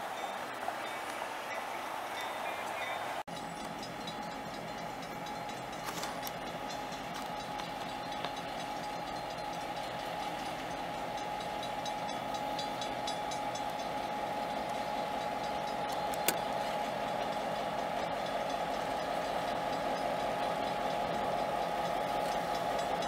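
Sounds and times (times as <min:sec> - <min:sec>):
diesel locomotive running: 0:00.0 - 0:23.0
steady whine: 0:00.0 - 0:23.0.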